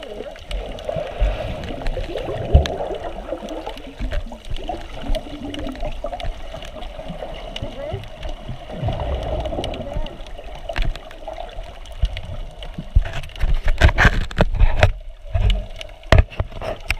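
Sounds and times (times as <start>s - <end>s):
underwater water sloshing and bubbling: 0.0s - 16.9s.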